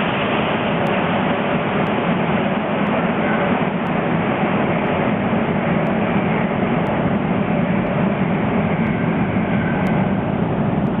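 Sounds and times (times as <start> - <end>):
subway train running: 0.0 - 11.0.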